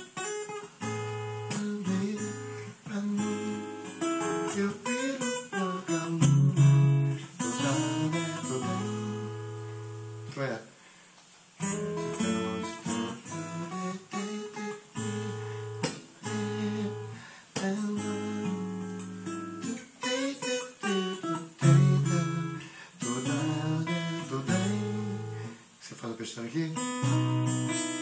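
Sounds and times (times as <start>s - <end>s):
solo acoustic guitar: 0.0s - 28.0s.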